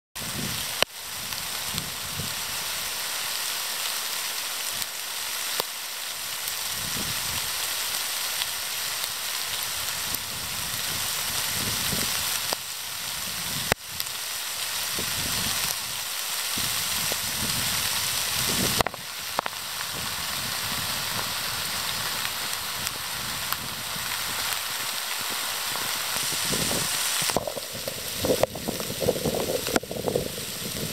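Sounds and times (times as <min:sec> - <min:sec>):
rain falling: 0:00.2 - 0:30.9.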